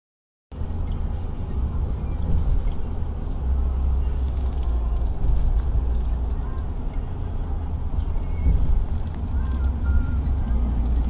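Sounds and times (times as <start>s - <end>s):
road and engine noise in vehicle: 0.5s - 11.0s.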